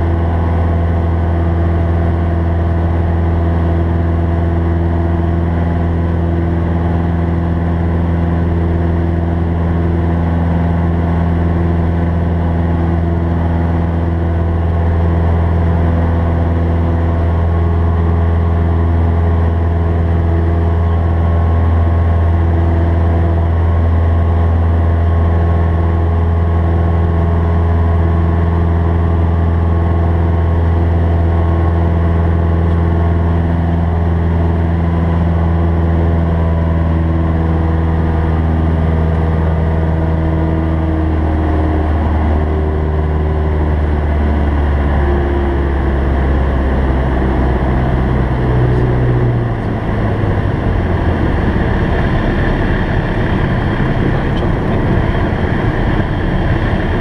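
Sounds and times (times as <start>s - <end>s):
aircraft engine and propeller: 0.0s - 57.0s.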